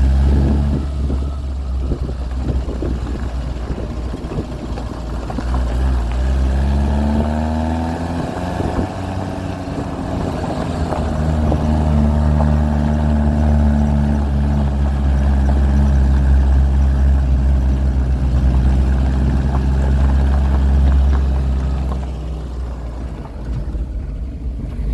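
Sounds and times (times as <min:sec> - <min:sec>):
car engine driving off-road: 0:00.0 - 0:24.9.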